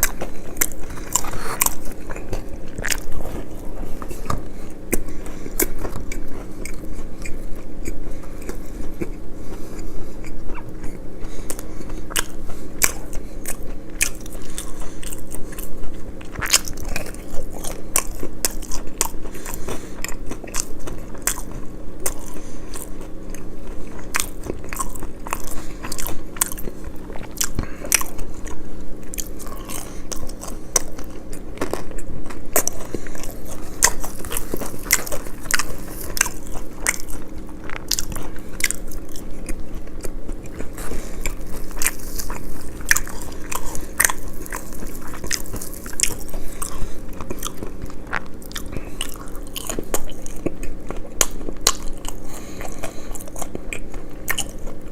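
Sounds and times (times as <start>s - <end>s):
crisp crunching and chewing: 0.0s - 54.9s
faint steady hum: 0.0s - 54.9s.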